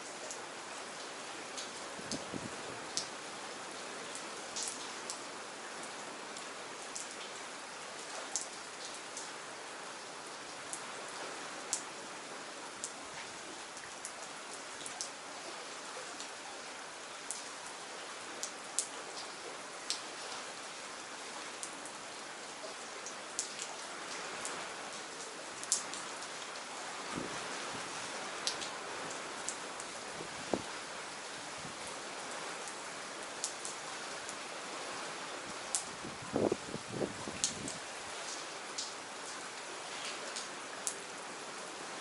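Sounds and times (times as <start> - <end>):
raindrops ticking close by: 0.0 - 42.0
steady rain hiss: 0.0 - 42.0.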